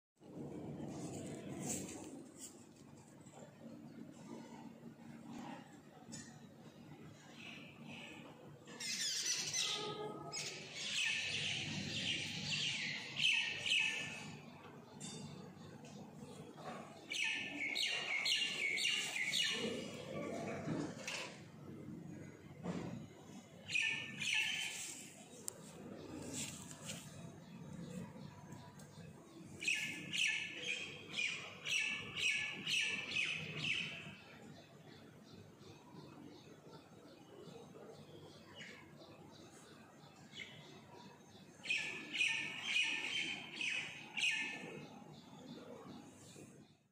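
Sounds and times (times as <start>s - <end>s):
small birds chirping and twittering: 1.0s - 20.9s, 21.7s - 46.9s.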